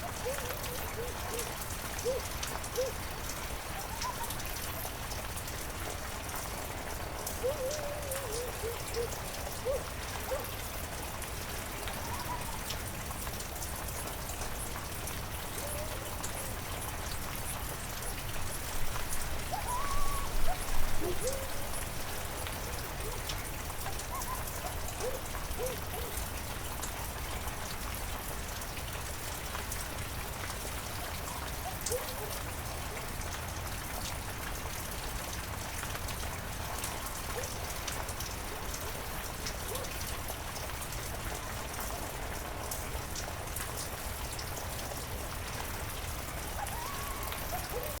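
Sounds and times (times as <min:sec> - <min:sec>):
heavy rain in a forest: 0:00.0 - 0:48.0
raindrops ticking: 0:00.0 - 0:48.0.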